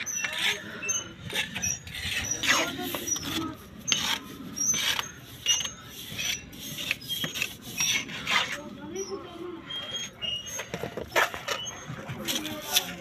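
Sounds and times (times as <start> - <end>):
trowel scraping mortar on brick: 0.0 - 13.0.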